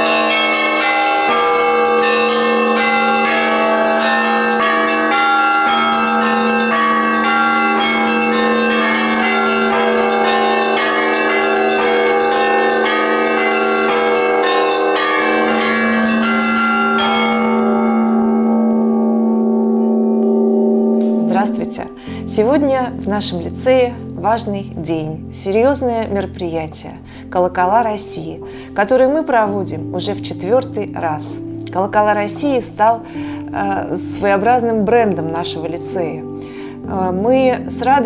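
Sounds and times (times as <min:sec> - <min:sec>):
church bells ringing: 0:00.0 - 0:38.0.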